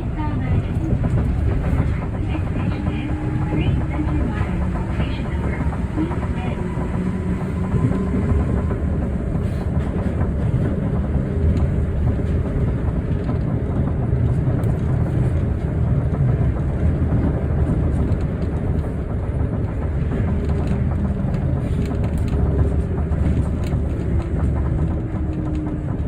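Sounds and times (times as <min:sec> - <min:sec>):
train running low rumble: 0:00.0 - 0:26.0.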